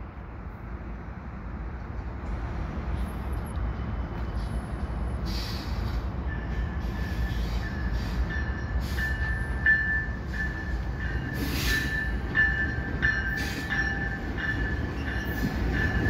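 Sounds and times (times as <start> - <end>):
train engine and rails rumbling: 0.0 - 16.0.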